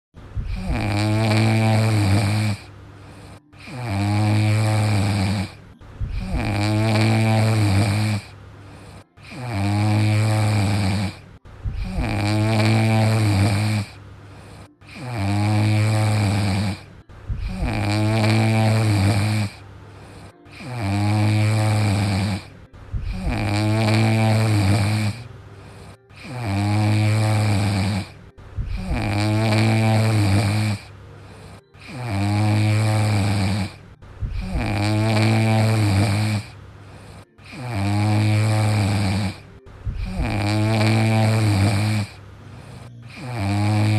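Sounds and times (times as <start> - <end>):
small dog snoring: 0.3 - 43.9.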